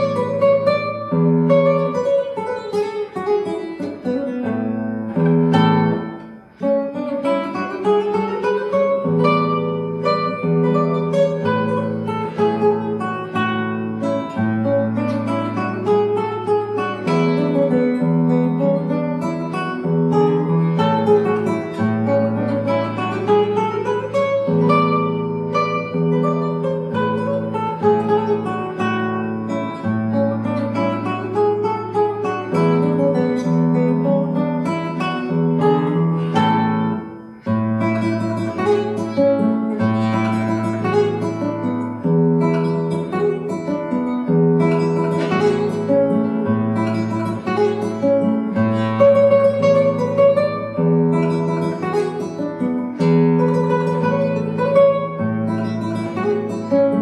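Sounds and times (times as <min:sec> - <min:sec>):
classical guitar fingerstyle: 0:00.0 - 0:57.0.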